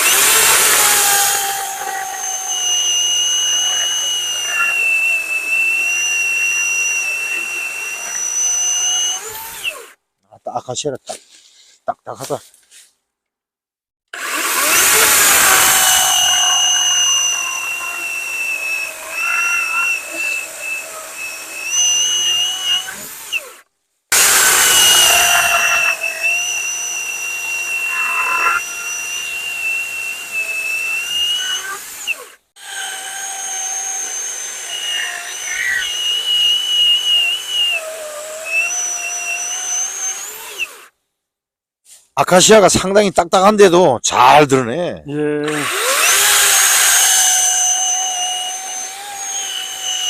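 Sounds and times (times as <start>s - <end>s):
electric chainsaw cutting logs: 0.0s - 10.0s, 14.1s - 41.0s, 45.4s - 50.0s.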